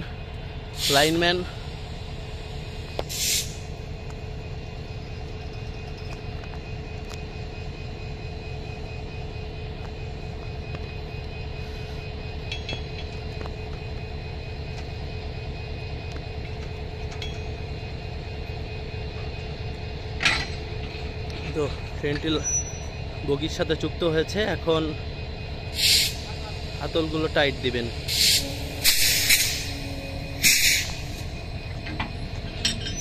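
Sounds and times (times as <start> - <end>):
locomotive engine rumbling: 0.0 - 33.0.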